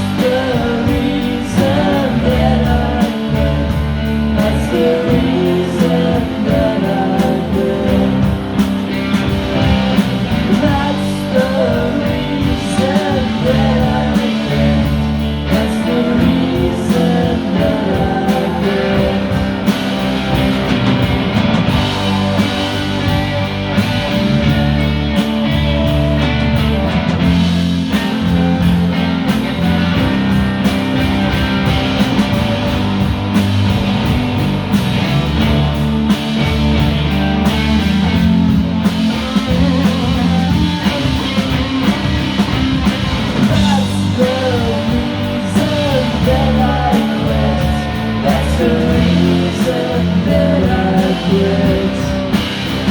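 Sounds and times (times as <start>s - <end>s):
electric guitar: 0.0s - 52.9s
live rock band playing: 0.0s - 52.9s.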